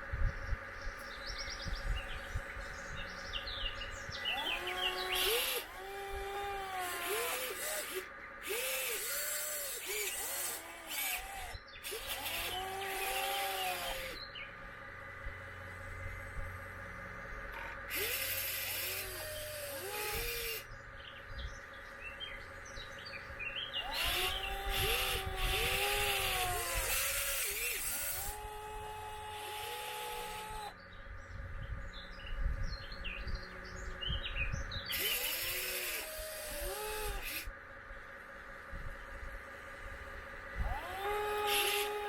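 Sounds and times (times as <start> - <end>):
small birds chirping: 0.0 - 14.7, 17.1 - 37.4
electric motors whining: 0.0 - 42.0
steady higher whine: 0.0 - 42.0.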